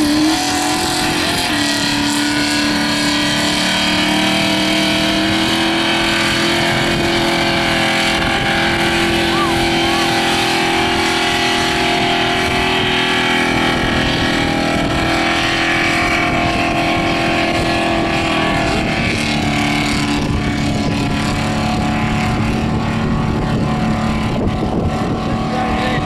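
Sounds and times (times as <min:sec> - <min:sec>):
car engine revving high: 0:00.0 - 0:26.0.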